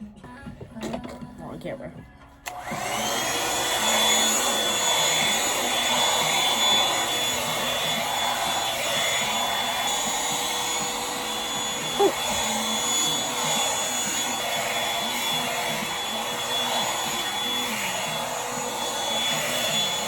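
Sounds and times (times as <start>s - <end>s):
appliance motor high whine: 2.4s - 20.0s.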